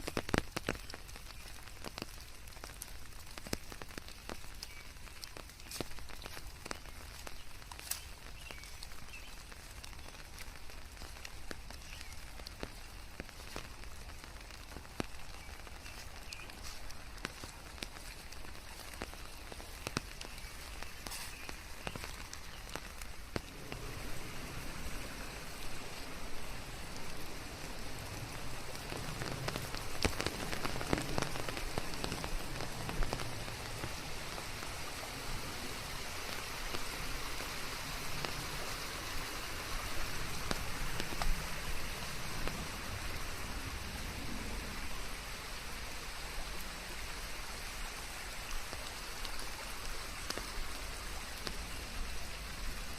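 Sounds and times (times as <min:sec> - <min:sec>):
raindrops ticking: 0:00.0 - 0:52.9
steady rain falling: 0:00.0 - 0:52.9.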